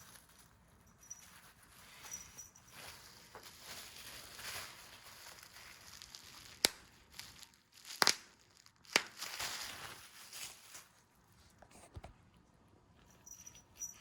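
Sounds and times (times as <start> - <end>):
rustling and crinkling: 0.0 - 12.4.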